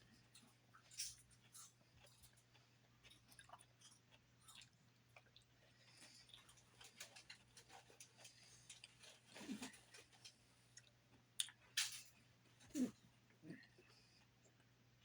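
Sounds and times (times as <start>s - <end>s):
chewing salad: 0.0s - 15.0s.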